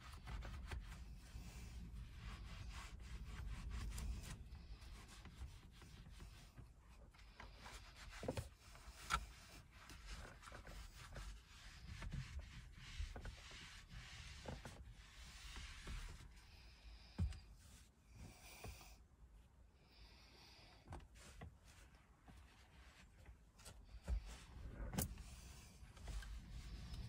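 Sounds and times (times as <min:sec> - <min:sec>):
scrub pad rubbing steering wheel: 0:00.0 - 0:16.4, 0:21.2 - 0:27.0.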